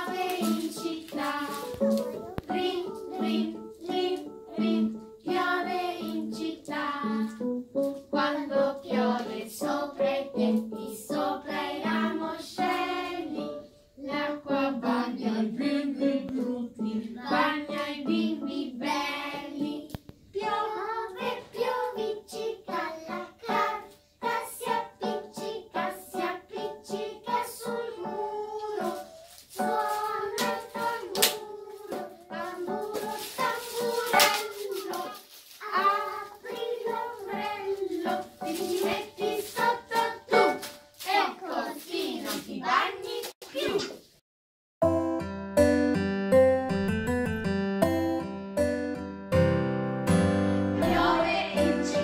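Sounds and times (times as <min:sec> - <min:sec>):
children singing: 0:00.0 - 0:07.4, 0:08.1 - 0:43.7, 0:50.8 - 0:52.0
digital piano accompaniment: 0:00.0 - 0:19.9, 0:20.6 - 0:41.0, 0:44.8 - 0:52.0.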